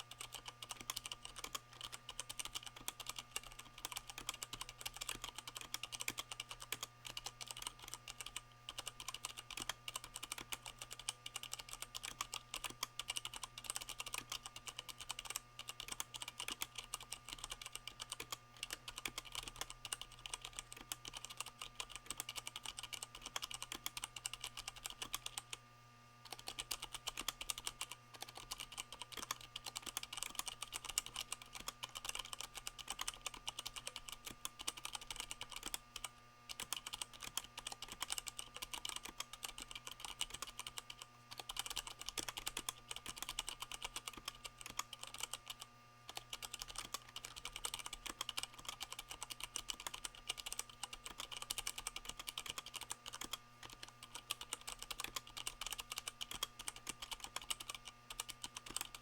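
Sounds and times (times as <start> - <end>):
fast typing on mechanical keyboard: 0.0 - 25.6, 26.3 - 59.0.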